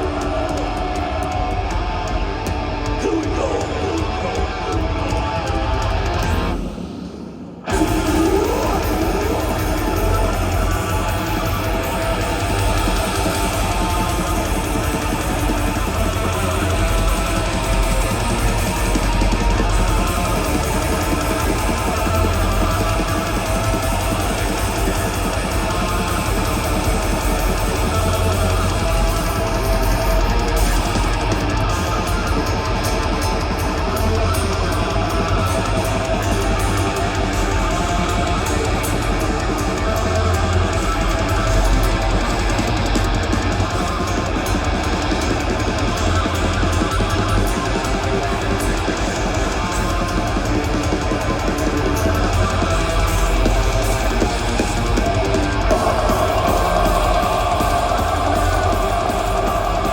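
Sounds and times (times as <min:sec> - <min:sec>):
death metal band playing: 0:00.0 - 0:06.8, 0:07.6 - 0:59.9.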